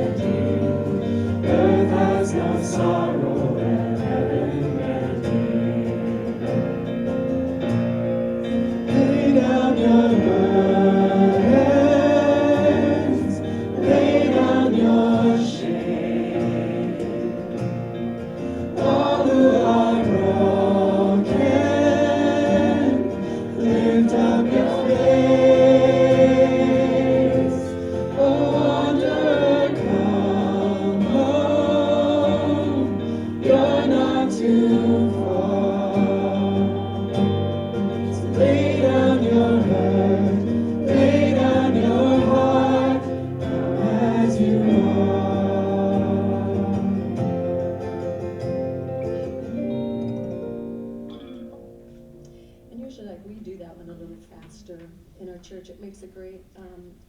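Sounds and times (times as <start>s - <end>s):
group singing worship song: 0.0s - 52.9s
instrumental accompaniment: 0.0s - 55.2s.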